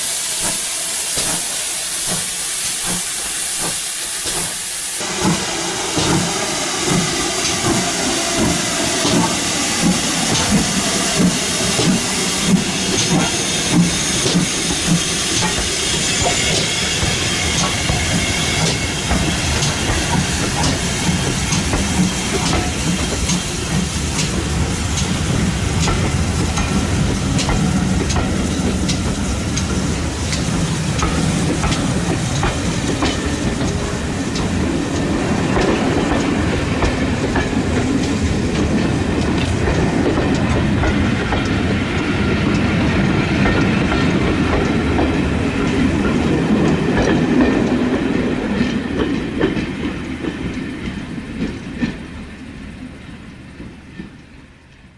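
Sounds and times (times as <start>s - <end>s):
steam locomotive pulling away: 0.0s - 54.9s
train wheels clicking over rail joints: 0.0s - 54.9s.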